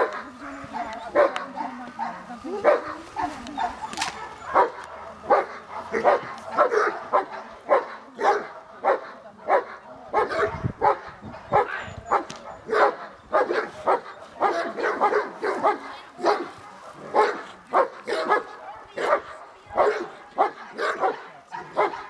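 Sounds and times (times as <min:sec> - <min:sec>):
large dog barking: 0:00.0 - 0:22.0.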